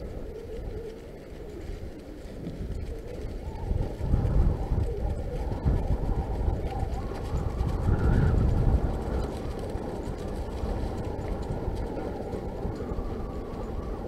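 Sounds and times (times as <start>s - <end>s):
bike tyres rolling on dirt: 0.0s - 14.0s
wind rumbling on microphone: 0.0s - 14.0s.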